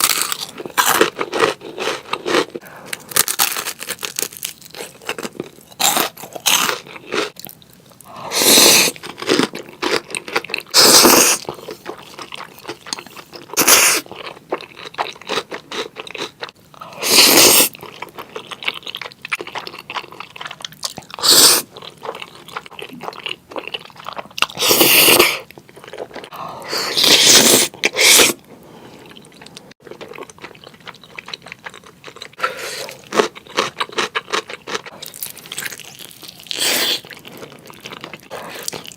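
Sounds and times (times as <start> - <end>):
chewing and crunching food: 0.0 - 8.2, 8.8 - 38.9.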